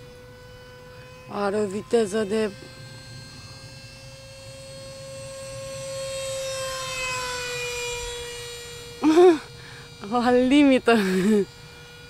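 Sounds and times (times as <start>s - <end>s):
electric ducted fan whining: 0.0s - 12.0s.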